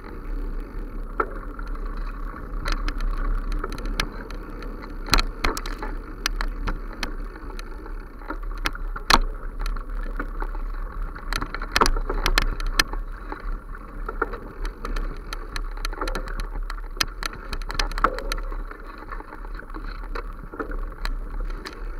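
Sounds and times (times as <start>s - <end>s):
steady low rumble: 0.0s - 21.9s
sharp clicks and knocks: 2.0s - 10.5s, 11.1s - 21.9s.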